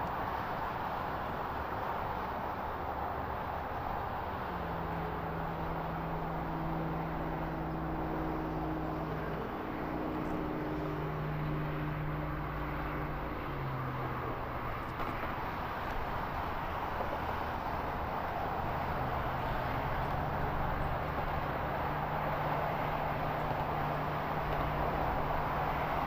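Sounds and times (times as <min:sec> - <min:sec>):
distant engine droning: 0:00.0 - 0:26.0.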